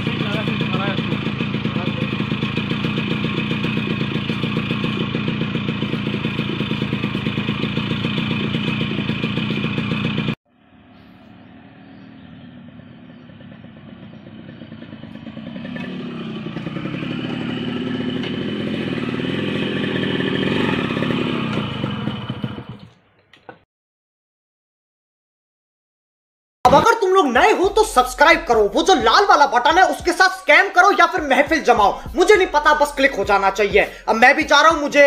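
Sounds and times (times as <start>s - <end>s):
two-stroke engine fast idle: 0.0s - 23.6s, 27.6s - 35.0s.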